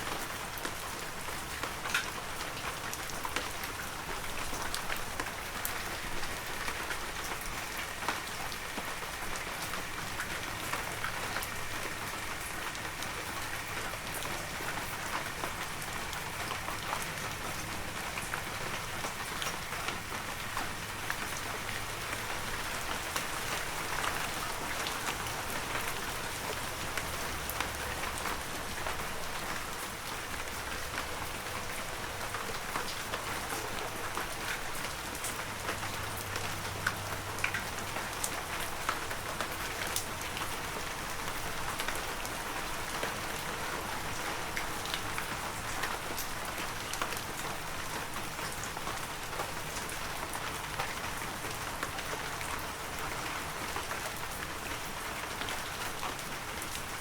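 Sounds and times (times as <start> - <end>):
heavy rain: 0.0 - 57.0
raindrops ticking close by: 0.0 - 57.0.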